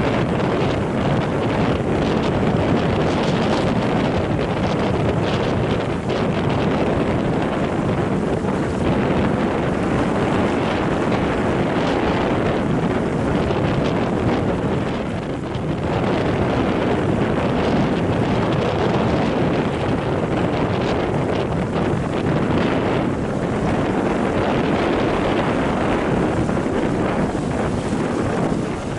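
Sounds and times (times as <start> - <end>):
strong wind buffeting microphone: 0.0 - 28.9.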